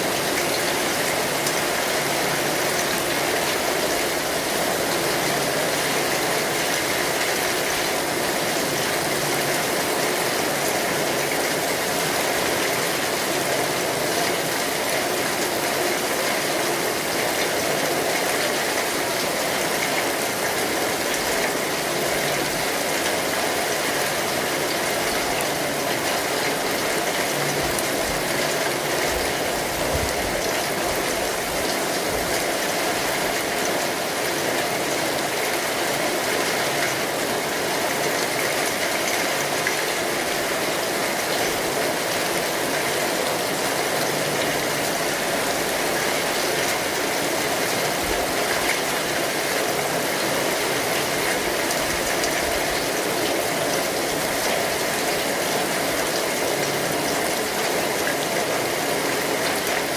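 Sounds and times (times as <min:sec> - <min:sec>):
rain falling on an umbrella: 0:00.0 - 0:59.9.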